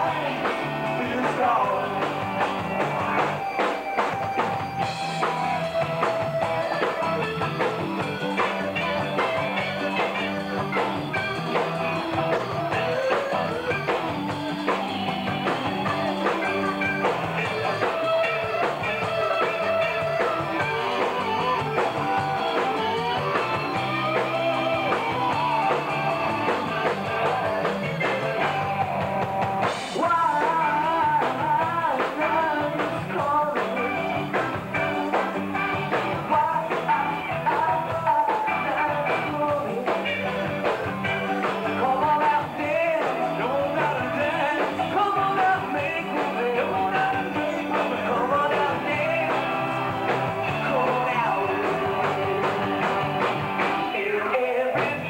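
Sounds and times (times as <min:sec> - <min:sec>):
person singing: 0:00.0 - 0:03.6, 0:08.0 - 0:29.2, 0:29.9 - 0:55.0
rock band playing: 0:00.0 - 0:55.0.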